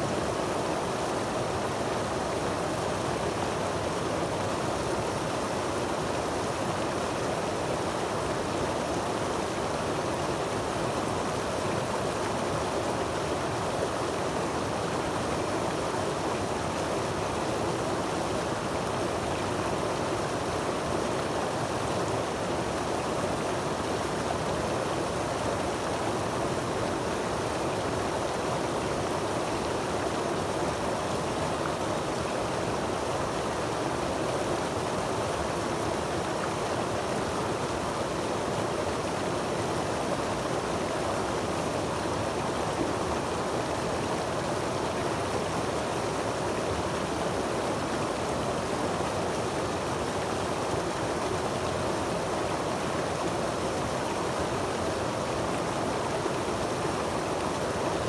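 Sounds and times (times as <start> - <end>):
water rushing over boulders: 0.0 - 58.0.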